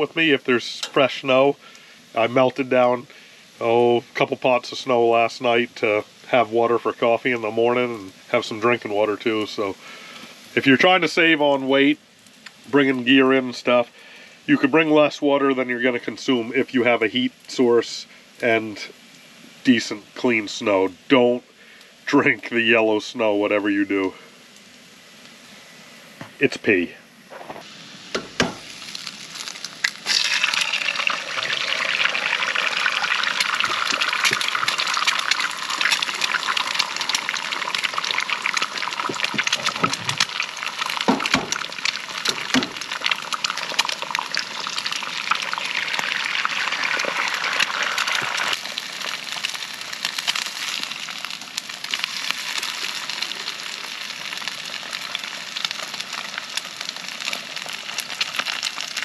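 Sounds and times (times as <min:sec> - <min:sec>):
food sizzling in a pan: 0:00.0 - 0:14.9, 0:16.2 - 0:59.0.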